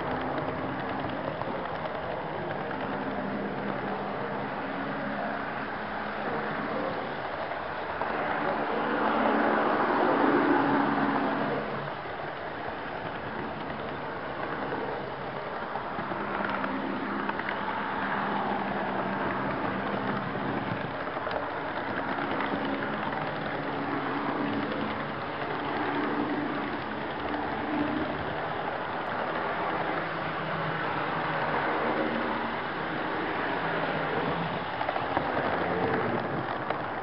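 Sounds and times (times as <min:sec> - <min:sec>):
model train wheels rattling on track: 0:00.0 - 0:37.0.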